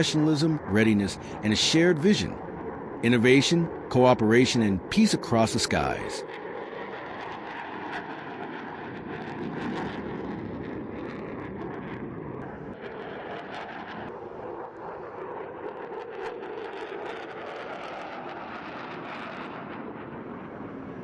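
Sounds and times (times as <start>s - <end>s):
aircraft engine rushing: 0.0s - 21.0s.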